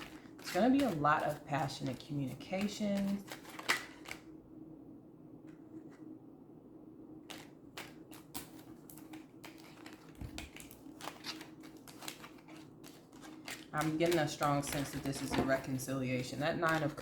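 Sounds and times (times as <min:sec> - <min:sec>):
cards clicking and tapping: 0:00.0 - 0:04.2, 0:07.3 - 0:17.0.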